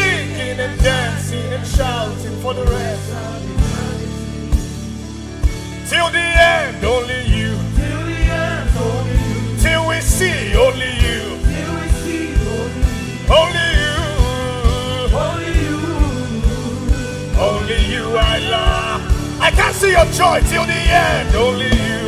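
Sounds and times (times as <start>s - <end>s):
man singing into microphone: 0.0s - 4.1s, 5.8s - 22.0s.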